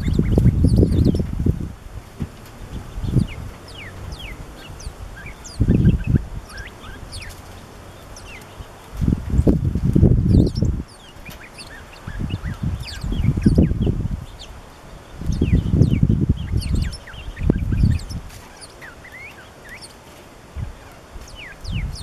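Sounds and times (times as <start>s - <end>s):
sparrows calling softly: 0.0s - 22.0s.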